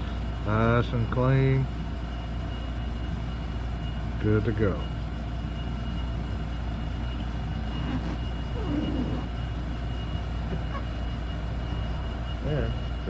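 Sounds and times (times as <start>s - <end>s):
high steady whine: 0.0s - 13.0s
low mechanical hum: 0.0s - 13.0s.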